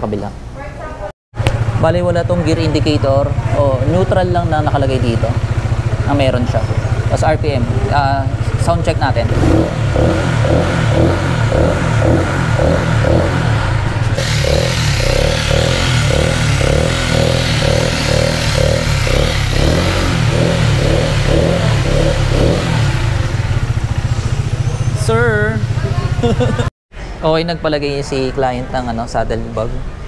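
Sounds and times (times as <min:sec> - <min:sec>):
motorcycle engine running: 0:01.4 - 0:26.7.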